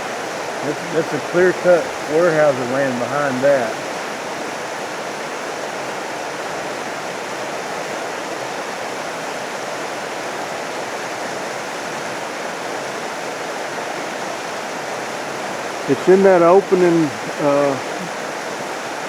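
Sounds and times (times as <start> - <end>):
creek water flowing: 0.0 - 19.0.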